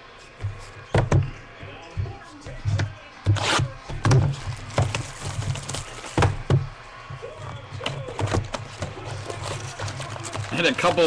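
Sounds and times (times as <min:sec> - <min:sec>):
card boxes knocking and clicking: 0:00.4 - 0:11.0.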